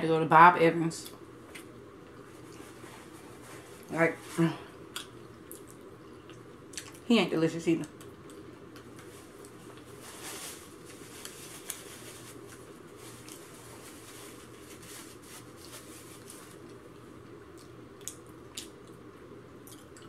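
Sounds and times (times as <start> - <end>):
room fan hum: 0.0 - 20.0.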